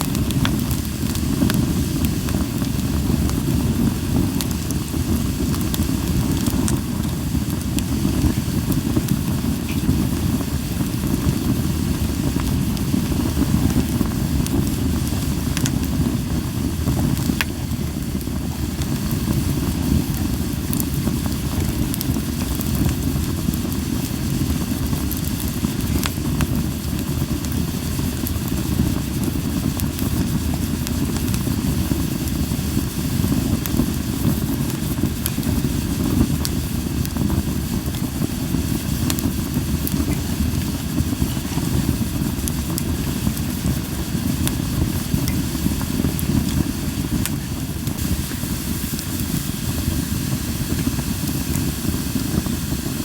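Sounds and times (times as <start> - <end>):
burning wood popping and crackling: 0.0 - 53.0
campfire rushing noise: 0.0 - 53.0.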